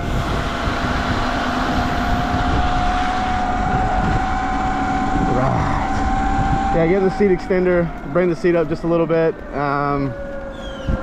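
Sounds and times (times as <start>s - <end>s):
electric motor whining: 0.0s - 11.0s
wet road noise: 0.0s - 11.0s
wind rushing on microphone: 0.0s - 11.0s.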